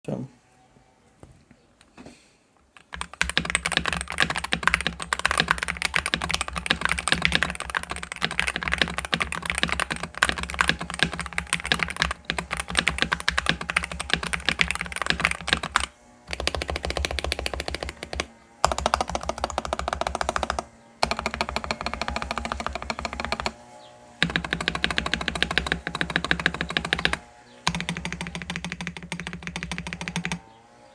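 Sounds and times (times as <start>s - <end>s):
mechanical keyboard typing: 2.8s - 23.6s, 24.2s - 30.4s.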